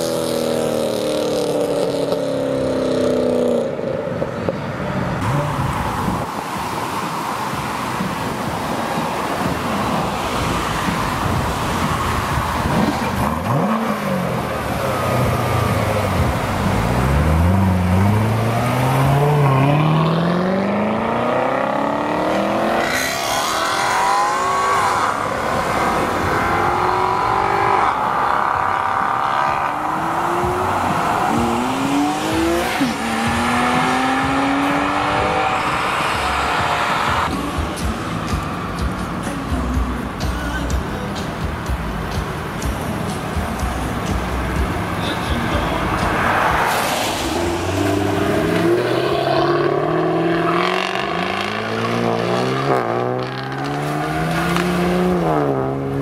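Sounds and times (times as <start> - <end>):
engines accelerating: 0.0 - 56.0
car engine accelerating hard: 5.2 - 40.2, 41.8 - 56.0.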